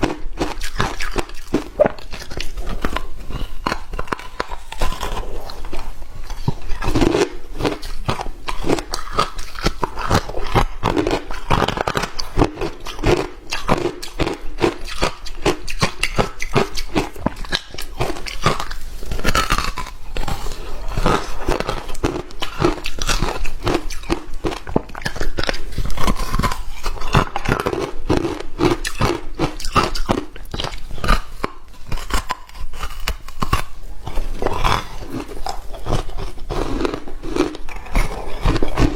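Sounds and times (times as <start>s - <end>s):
crunching ice while chewing: 0.0s - 38.9s.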